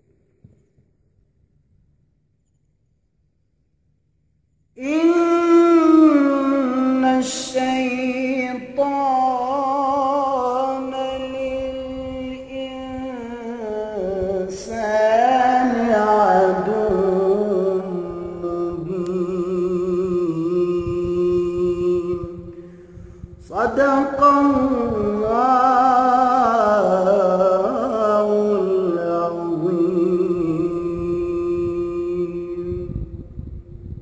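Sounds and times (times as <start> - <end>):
man chanting melodic recitation: 4.8 - 22.5, 23.4 - 33.0.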